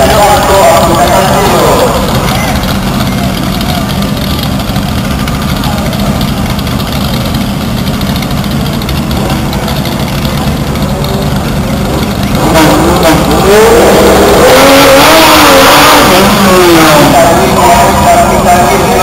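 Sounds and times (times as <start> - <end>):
drag racing engines revving: 0.0 - 19.0.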